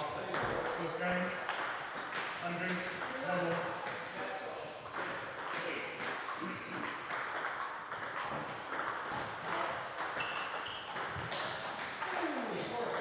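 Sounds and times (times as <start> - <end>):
distant ping pong balls: 0.2 - 4.0, 4.8 - 13.0.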